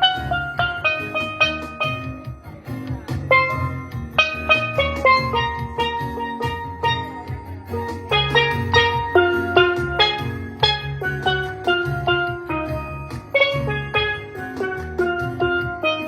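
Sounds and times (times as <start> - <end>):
low bass accompaniment: 0.0 - 16.0
steel pan melody: 0.0 - 16.0.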